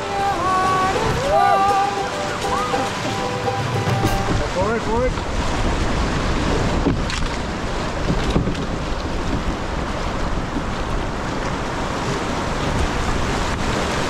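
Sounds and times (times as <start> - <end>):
whitewater rapids rushing: 0.0 - 14.0.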